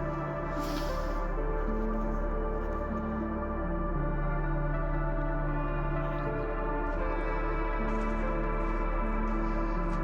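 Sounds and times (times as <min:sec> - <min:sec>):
steady low drone: 0:00.0 - 0:10.0.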